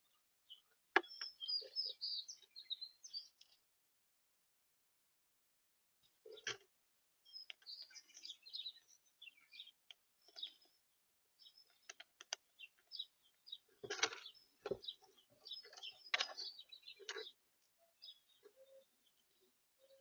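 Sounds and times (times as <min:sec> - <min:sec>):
small birds chirping: 0:00.0 - 0:03.7, 0:06.0 - 0:20.0.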